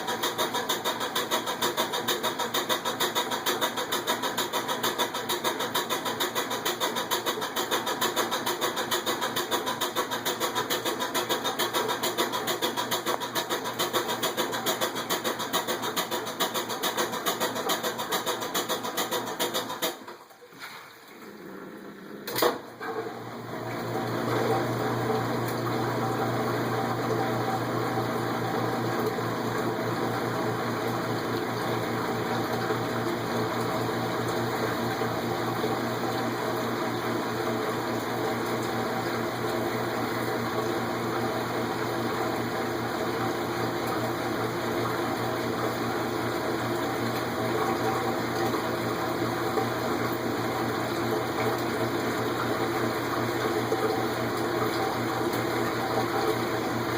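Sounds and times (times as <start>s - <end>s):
washer motor and pump humming: 0.0s - 56.9s.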